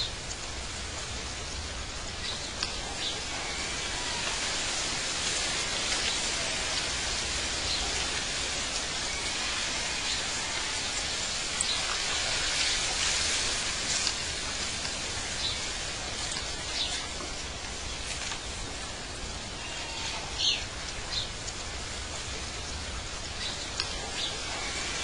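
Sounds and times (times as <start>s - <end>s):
steady hissing noise: 0.0s - 25.0s.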